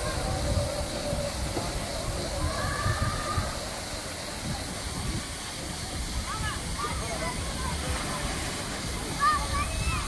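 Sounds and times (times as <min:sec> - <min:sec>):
distant chatter of bathers: 0:00.0 - 0:10.0
wind rumbling on microphone: 0:00.0 - 0:10.0.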